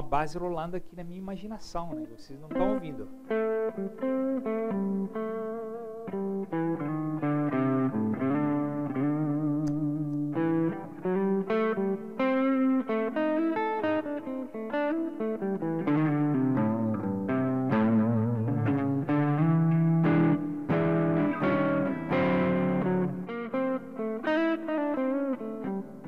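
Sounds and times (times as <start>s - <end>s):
electric guitar blues lead: 1.7s - 26.0s.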